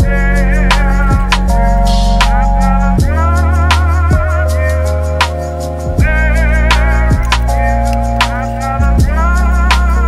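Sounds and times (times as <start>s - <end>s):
lo-fi hip hop music: 0.0s - 10.0s.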